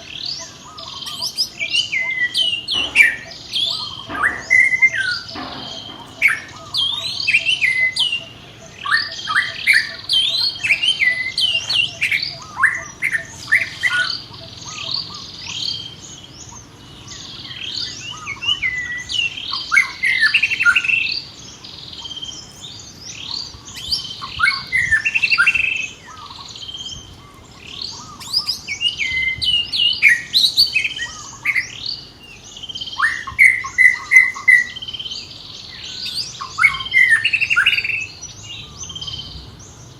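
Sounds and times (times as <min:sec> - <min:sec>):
high-pitched chirping calls: 0:00.0 - 0:39.9.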